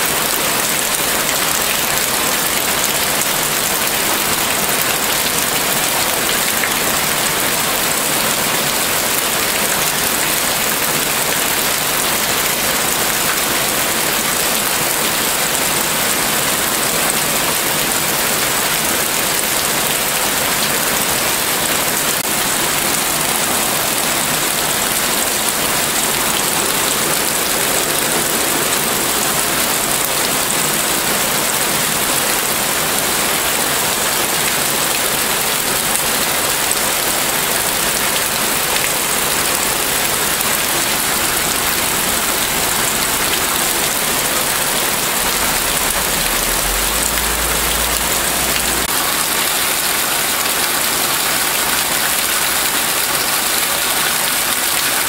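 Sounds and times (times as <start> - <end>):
heavy rain on roof shingles: 0.0 - 55.0.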